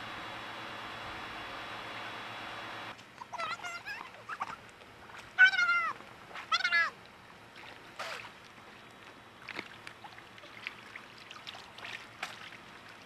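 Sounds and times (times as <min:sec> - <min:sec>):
pool water: 0:00.0 - 0:13.0.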